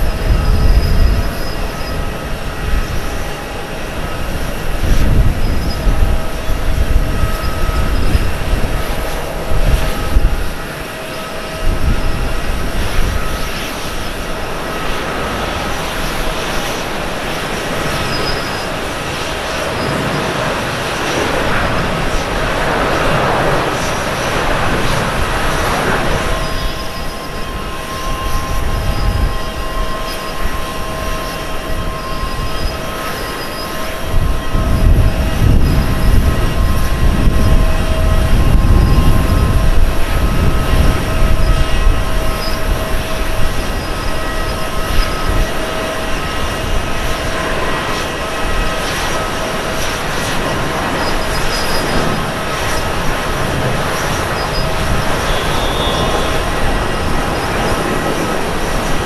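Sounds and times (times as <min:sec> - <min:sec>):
jet engines at takeoff: 0:00.0 - 0:59.0.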